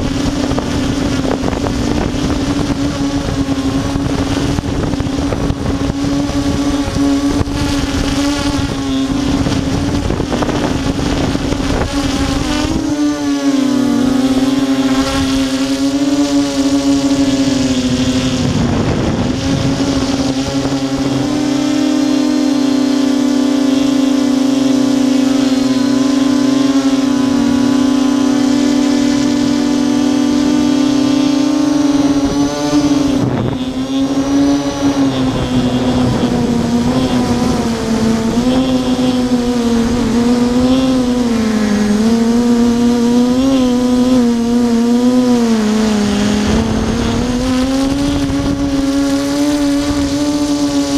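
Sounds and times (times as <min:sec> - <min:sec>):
quadcopter motors buzzing: 0:00.0 - 0:50.9.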